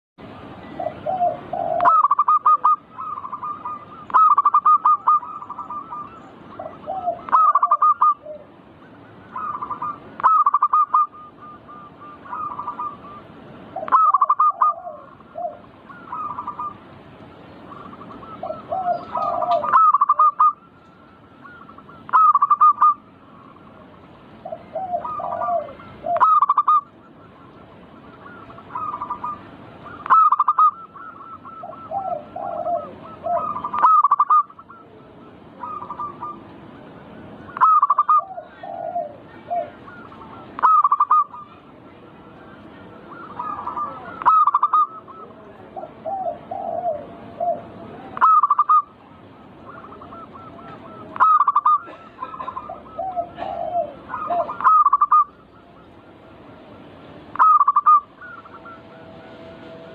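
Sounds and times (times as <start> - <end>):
dove cooing: 0.6 - 56.3, 57.3 - 59.9.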